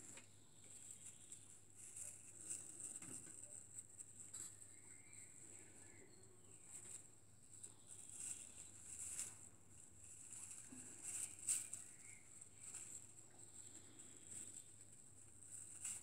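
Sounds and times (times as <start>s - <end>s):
paws rustling in dry hay: 0.0s - 16.0s.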